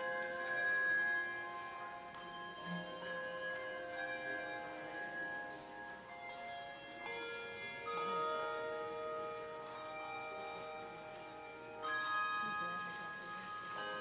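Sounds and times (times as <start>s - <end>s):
handbell choir playing: 0.0s - 14.0s.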